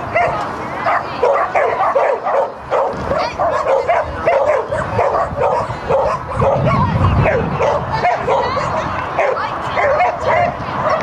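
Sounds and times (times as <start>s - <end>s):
dog barking: 0.1s - 11.0s.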